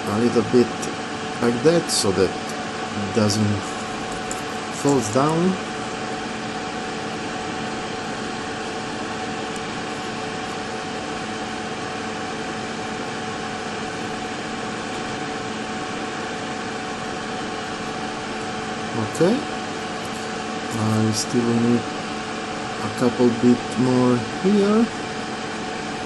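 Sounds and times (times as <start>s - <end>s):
machine hum and hiss: 0.0s - 26.0s.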